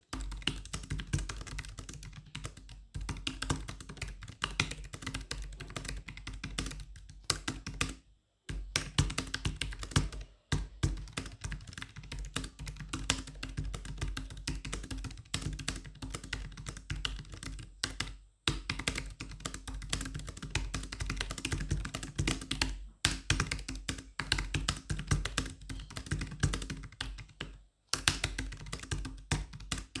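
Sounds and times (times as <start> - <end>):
fast keyboard typing: 0.1 - 30.0.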